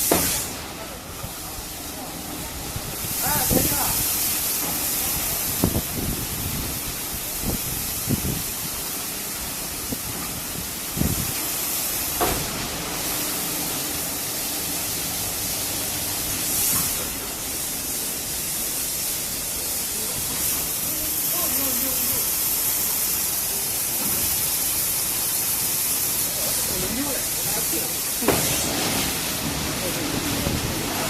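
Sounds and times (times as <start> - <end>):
car wash spraying hiss: 0.0 - 31.0.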